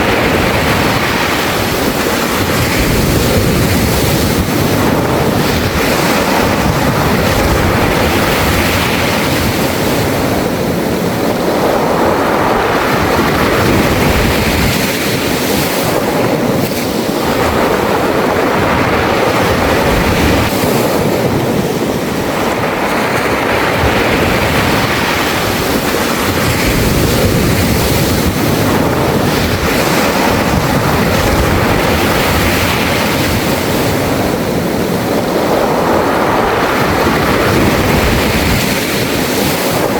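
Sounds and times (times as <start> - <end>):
surf washing over pebbles: 0.0 - 39.9.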